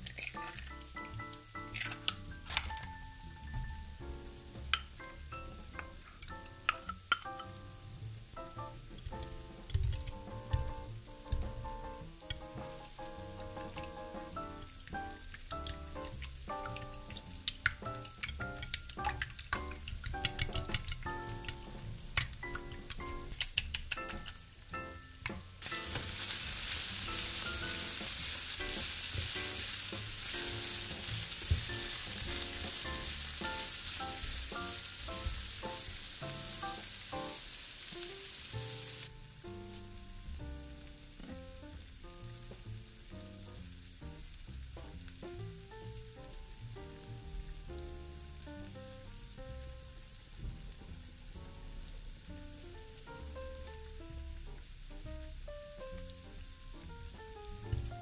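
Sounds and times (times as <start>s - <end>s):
background music with plucked notes: 0.0s - 37.3s, 38.0s - 58.0s
onions sizzling in oil: 0.0s - 58.0s.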